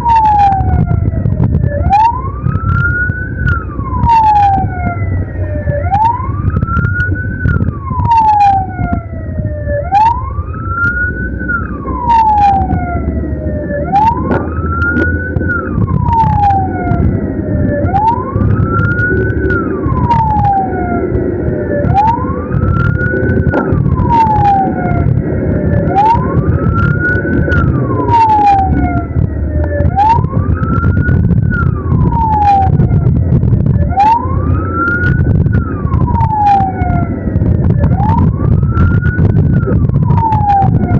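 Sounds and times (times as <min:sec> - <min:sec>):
ambulance siren wailing: 0:00.0 - 0:40.9
vehicle driving rumble: 0:00.0 - 0:40.9.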